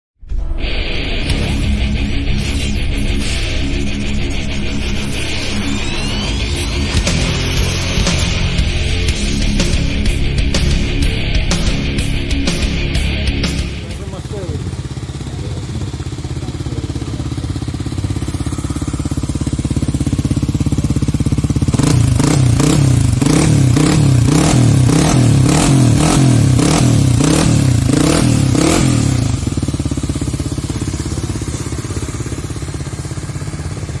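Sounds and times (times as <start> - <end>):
motorcycle engine idling and revving: 1.2 - 34.0.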